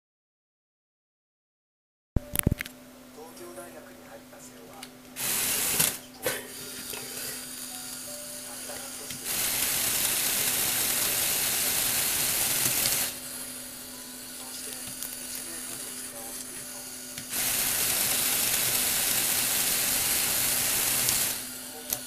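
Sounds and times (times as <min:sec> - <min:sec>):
electric motors humming: 0:03.2 - 0:22.0.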